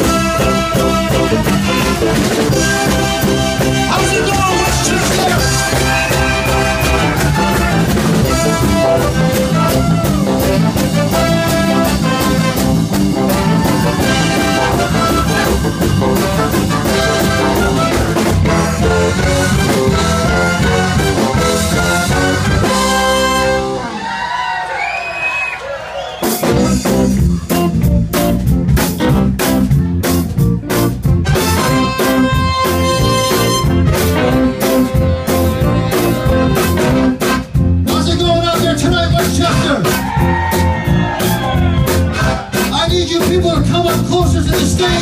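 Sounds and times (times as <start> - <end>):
live blues-rock band: 0.0 - 24.6, 26.0 - 45.0
brass section: 0.0 - 27.4, 31.1 - 43.1.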